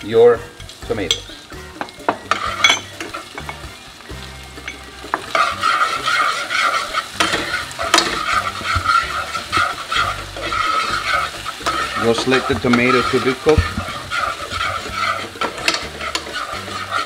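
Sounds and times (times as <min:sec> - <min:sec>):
onions sizzling in a frying pan: 0:00.0 - 0:17.0
metal spoon scraping a pan: 0:02.1 - 0:03.7, 0:04.6 - 0:17.0.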